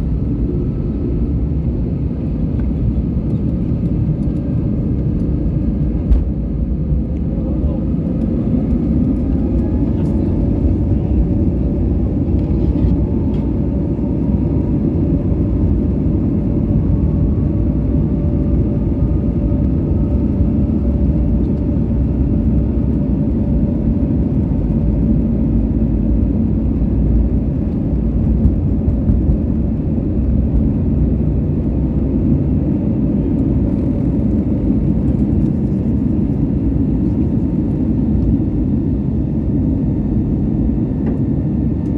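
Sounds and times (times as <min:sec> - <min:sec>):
faint rising engine whine: 0:00.0 - 0:41.9
jet engine rumble in cabin: 0:00.0 - 0:41.9.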